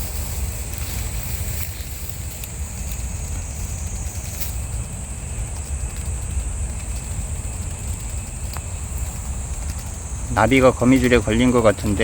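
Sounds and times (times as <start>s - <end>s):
insects trilling: 0.0s - 12.0s
low wind rumble on microphone: 0.0s - 12.0s
faint clicks: 0.6s - 12.0s.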